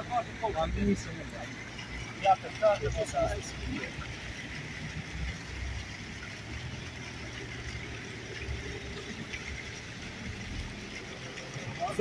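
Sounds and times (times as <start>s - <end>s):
low traffic rumble: 0.0s - 12.0s
small fountain splashing: 0.0s - 12.0s.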